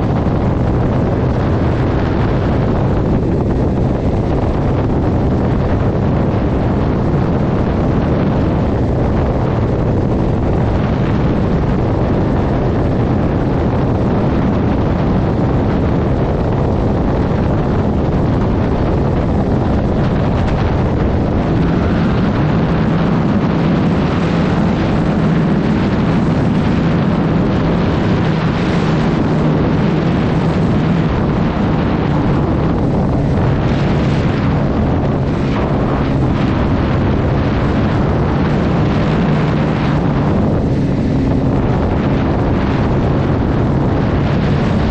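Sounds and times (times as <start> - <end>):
vehicle engine droning: 0.0 - 44.9
wind buffeting microphone: 0.0 - 44.9.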